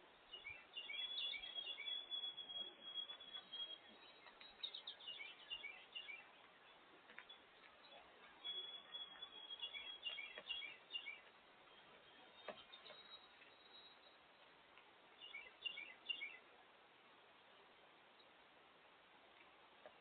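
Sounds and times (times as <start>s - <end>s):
songbirds singing faintly: 0.0s - 20.0s.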